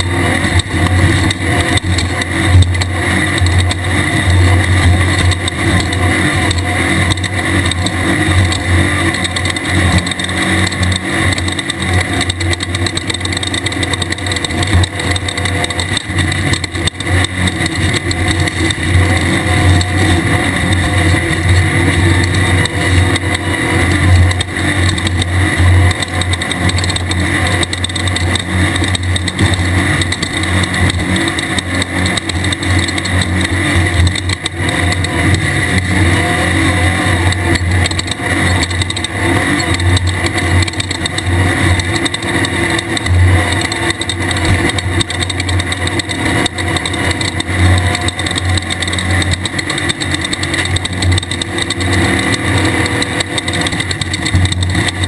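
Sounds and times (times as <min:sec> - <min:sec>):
buggy engine revving high: 0:00.0 - 0:55.0
driving noise: 0:00.0 - 0:55.0.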